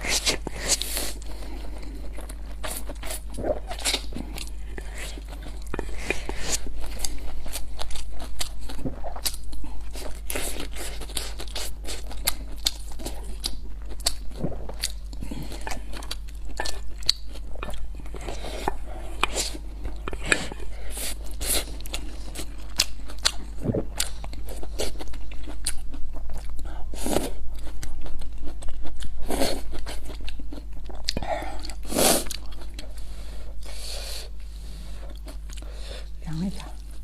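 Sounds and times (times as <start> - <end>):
steady low hum: 0.0 - 37.0
chewing and mouth smacks: 0.2 - 33.0.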